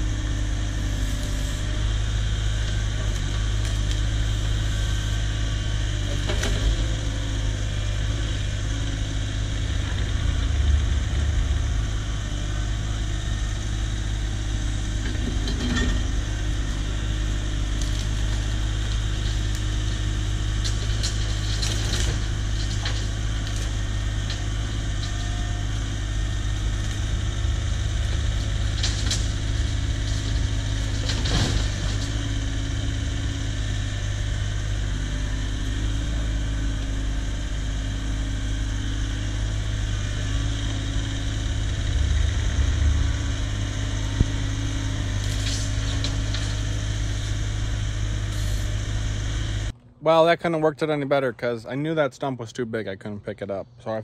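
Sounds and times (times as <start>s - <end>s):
excavator diesel engine running: 0.0s - 51.4s.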